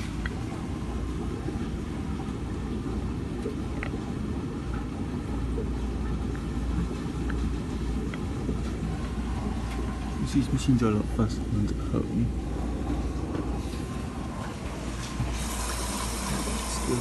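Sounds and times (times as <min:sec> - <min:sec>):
washing machine rumbling: 0:00.0 - 0:17.0.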